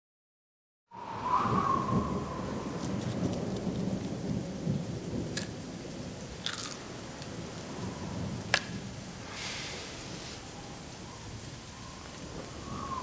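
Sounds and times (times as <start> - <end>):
rain: 0.9 - 13.0
thunder rumbling: 0.9 - 13.0.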